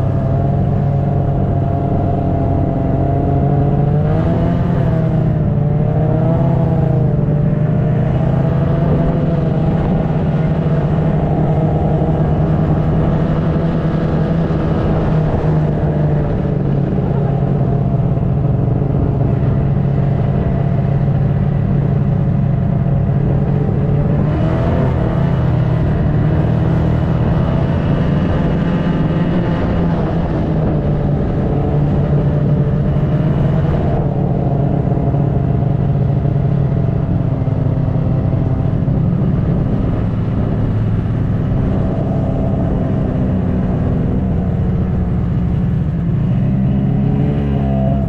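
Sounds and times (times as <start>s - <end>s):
snowmobile engine running: 0.0s - 48.0s.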